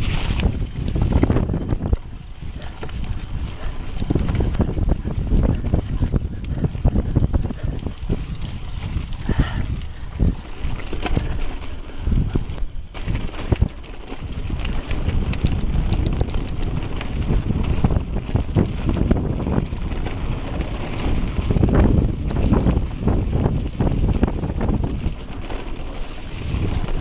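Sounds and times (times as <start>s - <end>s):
bike knocks and rattles: 0.0s - 27.0s
wind buffeting microphone: 0.0s - 27.0s.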